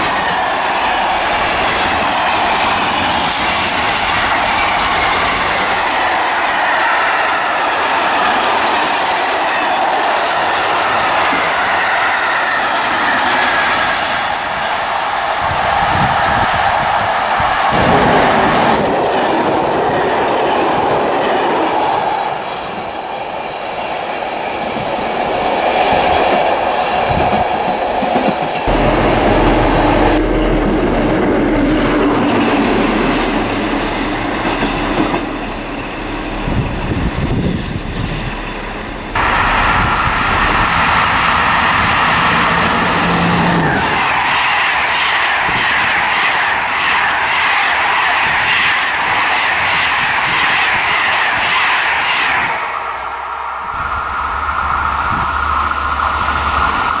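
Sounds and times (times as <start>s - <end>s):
train wheel clatter: 0.0s - 23.2s, 24.2s - 52.7s
diesel locomotive engine: 0.0s - 57.0s
electric locomotive rolling past: 0.0s - 57.0s.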